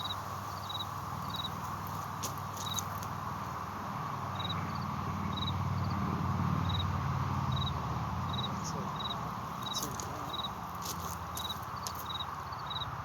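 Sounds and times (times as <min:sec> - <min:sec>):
insect chirping: 0:00.0 - 0:06.0, 0:06.6 - 0:13.0.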